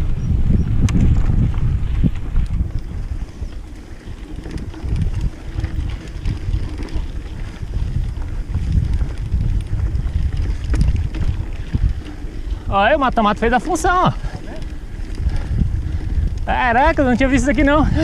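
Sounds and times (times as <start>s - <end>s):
wind buffeting microphone: 0.0s - 18.0s
bike clicks: 0.1s - 18.0s.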